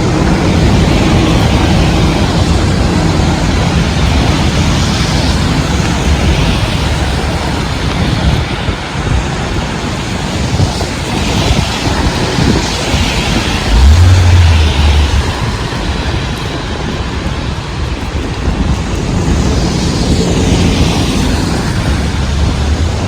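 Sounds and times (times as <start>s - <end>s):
heavy rain: 0.0s - 23.0s
wind gusting on microphone: 0.0s - 23.0s.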